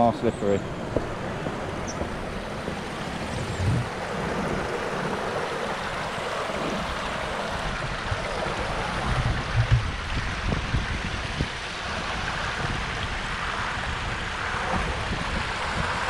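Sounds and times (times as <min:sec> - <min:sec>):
river water over rocks: 0:00.0 - 0:16.0.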